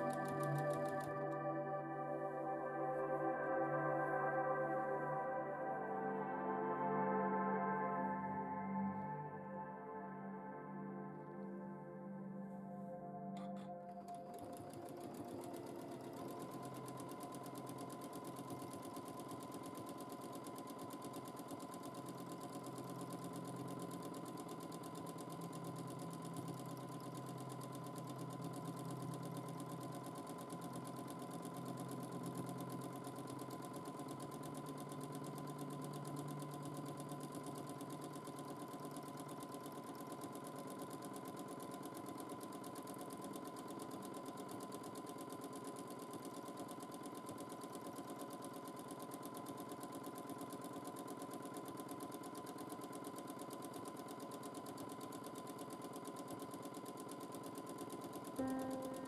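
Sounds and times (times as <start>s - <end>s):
sewing machine running: 0.0s - 6.2s, 13.4s - 59.0s.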